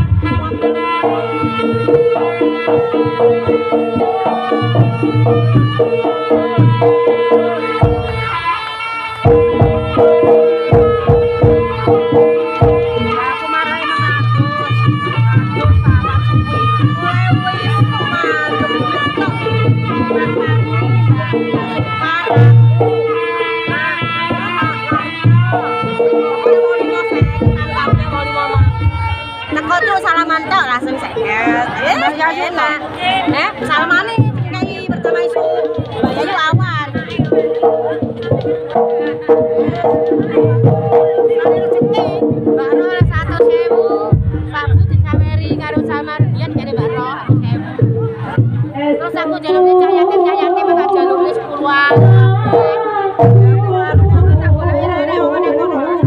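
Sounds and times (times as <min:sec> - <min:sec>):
gamelan music: 0:00.0 - 0:56.0
hand drums: 0:00.0 - 0:56.0.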